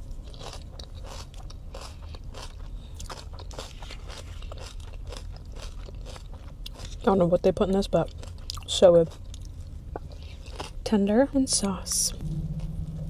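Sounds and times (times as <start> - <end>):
crunching while eating: 0.0 - 10.9, 11.9 - 13.0
wet chewing: 0.1 - 10.8.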